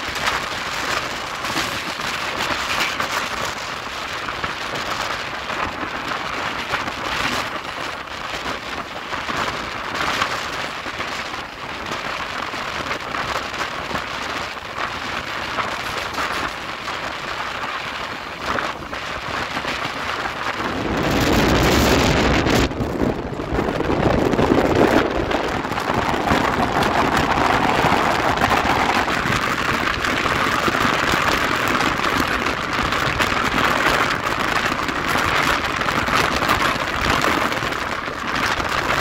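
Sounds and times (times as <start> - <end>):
train wheels rushing on rails: 0.0 - 39.0.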